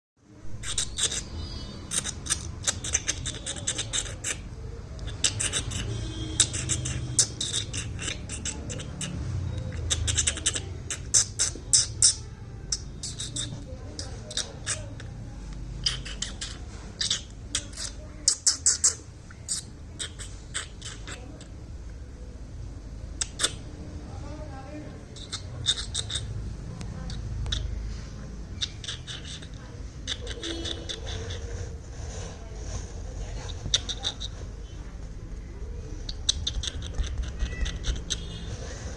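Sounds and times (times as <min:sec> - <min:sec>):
baby bird cheeping: 0:00.5 - 0:15.2, 0:15.8 - 0:21.6, 0:23.2 - 0:23.7, 0:25.1 - 0:26.4, 0:27.1 - 0:27.9, 0:28.5 - 0:34.8, 0:35.9 - 0:38.9.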